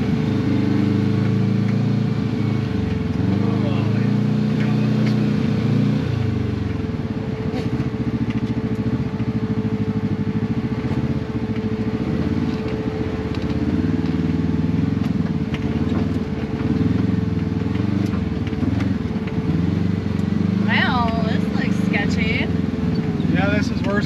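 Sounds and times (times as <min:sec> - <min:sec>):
steady whine: 0:00.0 - 0:24.0
utility vehicle engine running: 0:00.0 - 0:24.0.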